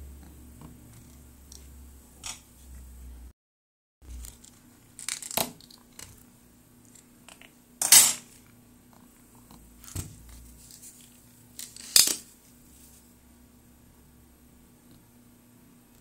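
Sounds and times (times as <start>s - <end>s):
faint steady hum: 0.0s - 3.3s, 4.0s - 16.0s.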